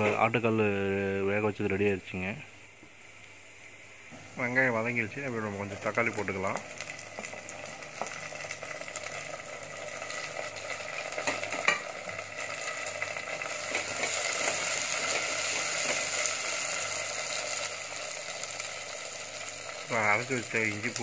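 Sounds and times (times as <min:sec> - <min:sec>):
vegetables sizzling in hot oil: 0:03.0 - 0:21.0.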